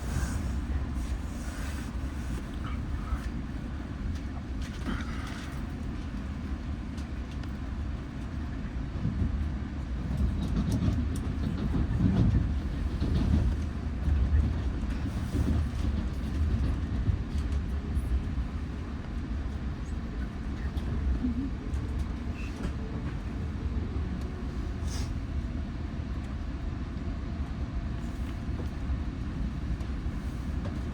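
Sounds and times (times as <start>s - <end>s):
train rumbling past: 0.0s - 30.9s.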